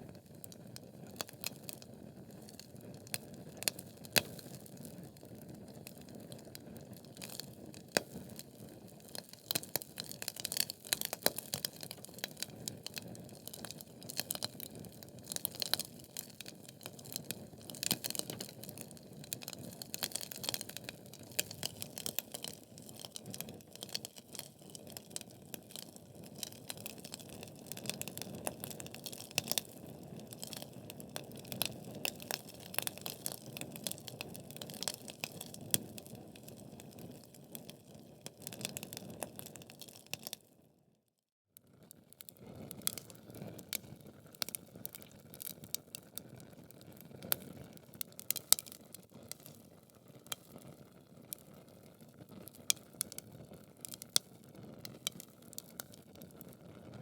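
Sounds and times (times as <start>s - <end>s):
log fire crackling: 0.2s - 40.4s, 42.3s - 56.7s.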